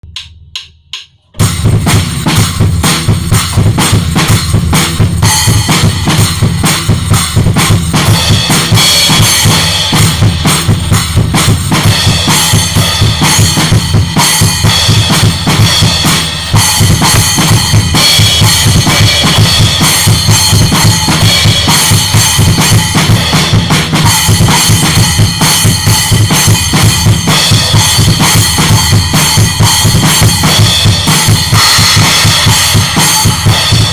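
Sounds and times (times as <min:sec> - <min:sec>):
drum kit groove: 0:00.0 - 0:33.9.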